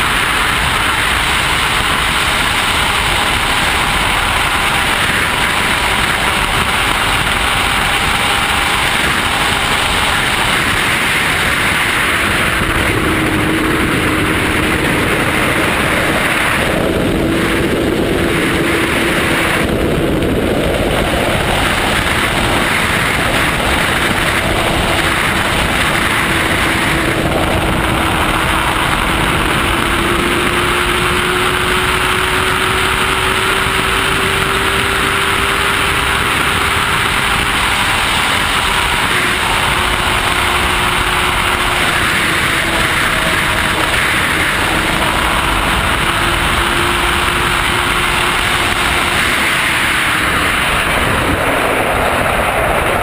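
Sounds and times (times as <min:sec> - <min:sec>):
heavy wind rush: 0:00.0 - 0:53.0
motorcycle engine at high rpm: 0:00.0 - 0:53.0.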